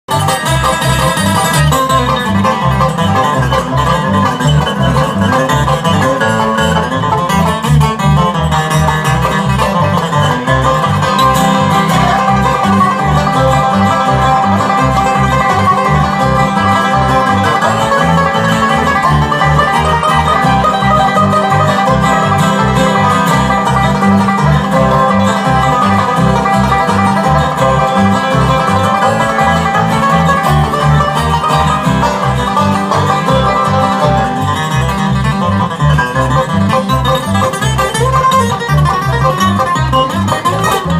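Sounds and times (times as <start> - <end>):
banjo: 0.0 - 40.9
guitar: 0.0 - 40.9.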